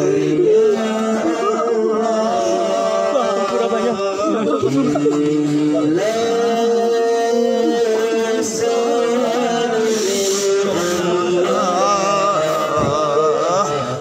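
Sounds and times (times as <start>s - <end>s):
man singing a slow chant: 0.0s - 14.0s.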